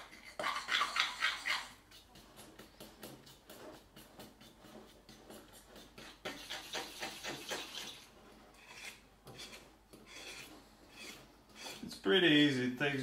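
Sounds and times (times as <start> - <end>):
spoon stirring in a bowl: 0.0 - 12.0.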